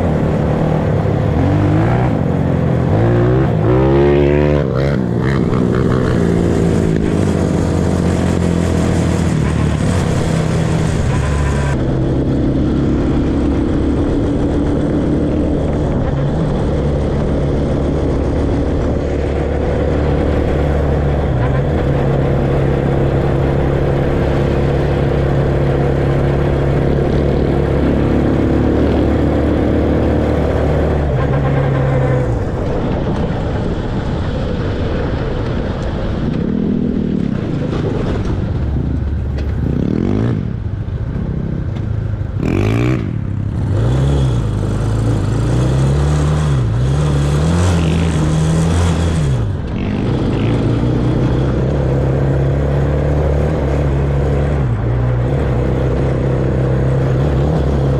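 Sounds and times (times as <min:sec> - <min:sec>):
off-road vehicle engine revving: 0:00.0 - 0:32.3, 0:42.4 - 0:57.9.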